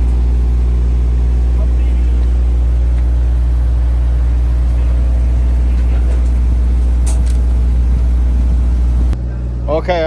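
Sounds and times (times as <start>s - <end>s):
engine low drone: 0.0s - 10.0s.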